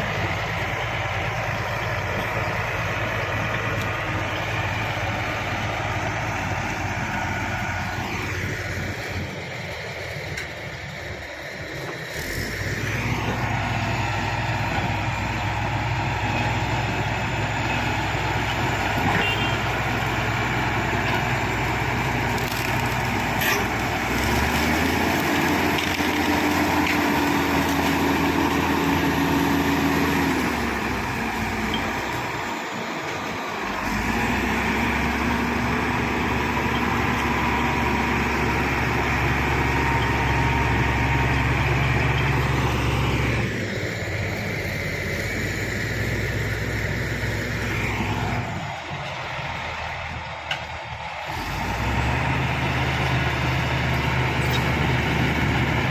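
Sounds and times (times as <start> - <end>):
bulldozer diesel engine under load: 0.0 - 55.9.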